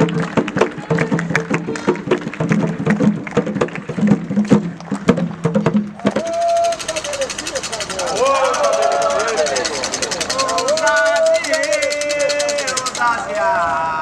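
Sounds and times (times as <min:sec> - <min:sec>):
drum and percussion music: 0:00.0 - 0:13.4.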